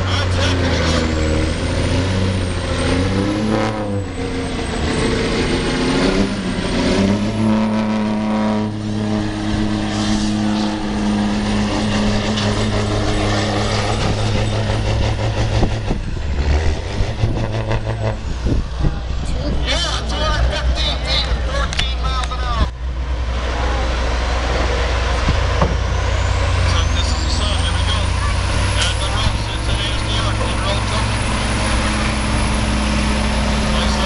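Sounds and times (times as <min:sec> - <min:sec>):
diesel truck engine revving: 0:00.0 - 0:34.0.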